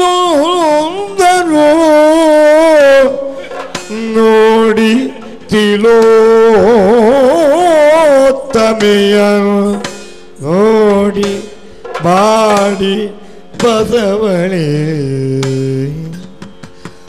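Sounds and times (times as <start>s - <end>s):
sharp drum strokes: 0.0s - 17.0s.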